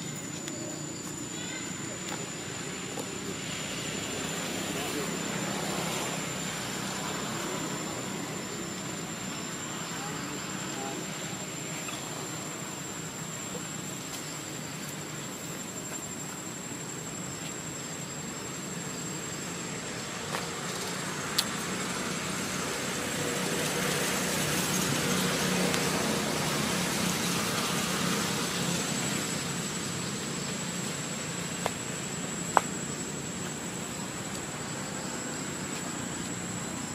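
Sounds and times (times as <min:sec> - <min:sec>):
outdoor background hiss: 0:00.0 - 0:36.9.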